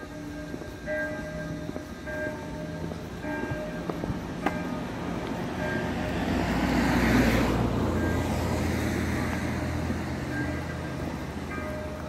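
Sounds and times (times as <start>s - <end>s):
faint church bell ringing: 0.0s - 7.0s, 7.9s - 12.0s
vehicle passing: 1.3s - 12.0s.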